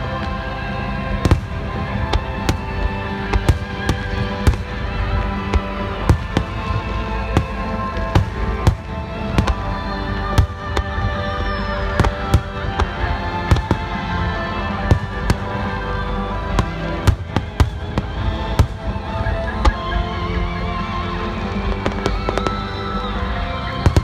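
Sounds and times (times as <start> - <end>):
fireworks bursting: 0.0 - 24.0
music with sustained tones: 0.0 - 24.0.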